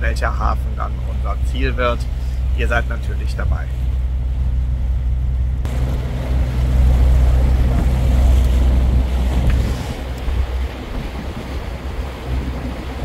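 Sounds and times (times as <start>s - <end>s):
boat engine droning: 0.0s - 13.0s
rushing wind and water: 0.0s - 13.0s.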